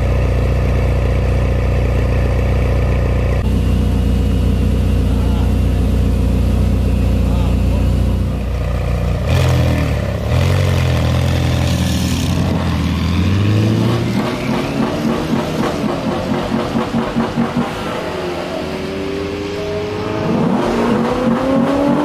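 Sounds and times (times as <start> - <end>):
sports car engines revving: 3.0 - 22.0.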